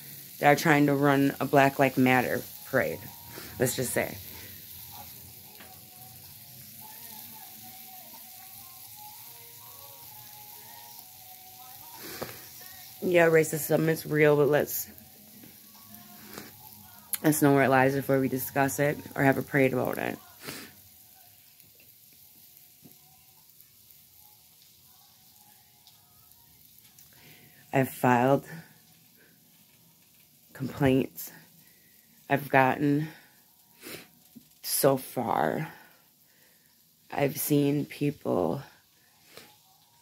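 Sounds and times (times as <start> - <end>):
room tone hiss: 0.0 - 40.0.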